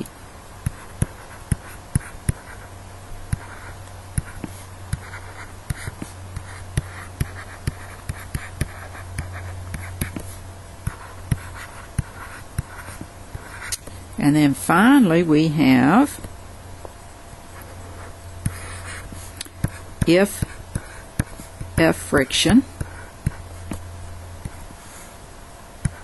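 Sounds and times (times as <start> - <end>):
stylus tapping and scratching on tablet: 0.0 - 25.1, 25.8 - 26.0
steady low hum: 0.0 - 26.0.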